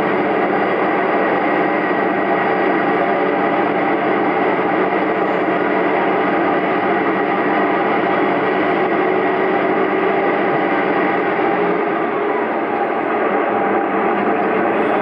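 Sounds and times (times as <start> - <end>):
train engine hum: 0.0 - 15.0
train wheels rushing on rail: 0.0 - 15.0.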